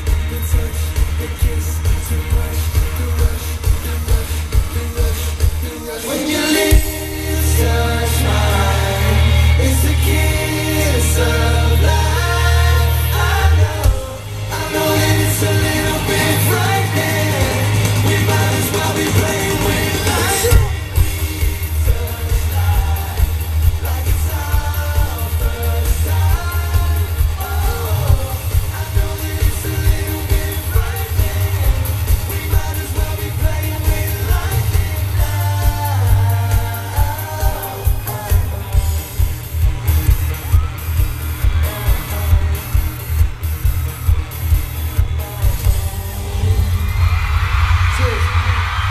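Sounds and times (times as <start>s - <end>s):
male group vocals: 0.0s - 39.3s
crowd yelling: 0.0s - 48.9s
live pop band playing: 0.0s - 48.9s.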